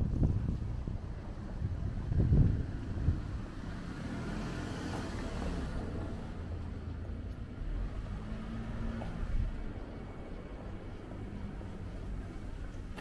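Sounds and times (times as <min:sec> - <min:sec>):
car passing: 0:00.0 - 0:13.0
low rumble of street noise: 0:00.0 - 0:13.0.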